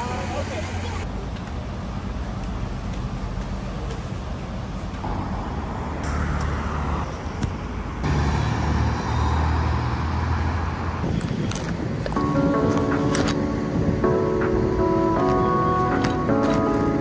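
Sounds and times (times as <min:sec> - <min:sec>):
low rumble of motor vehicles: 0:00.0 - 0:17.0
street noise: 0:00.0 - 0:17.0.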